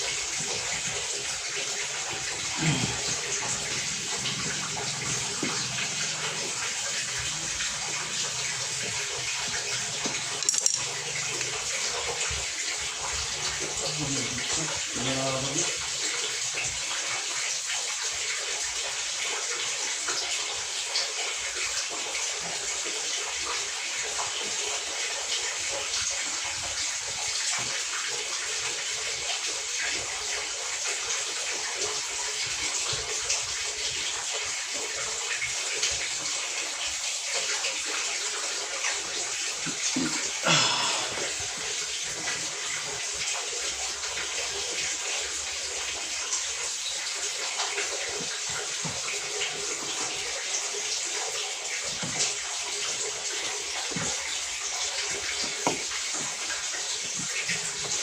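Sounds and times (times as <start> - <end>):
water running in washing machine: 0.0 - 58.0.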